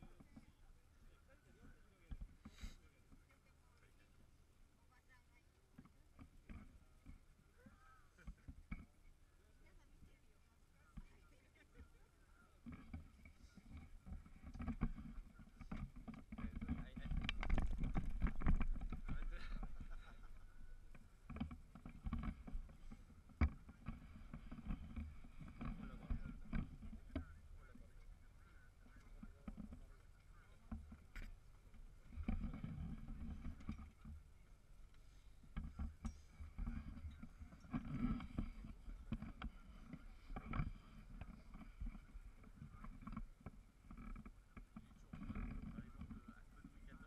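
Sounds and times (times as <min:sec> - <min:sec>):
boat engine rumble: 0:00.0 - 0:47.0.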